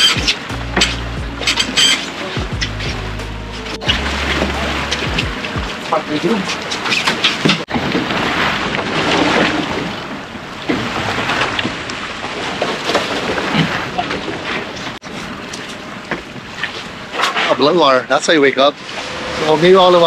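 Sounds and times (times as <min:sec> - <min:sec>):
sea water rushing: 0:00.0 - 0:20.0.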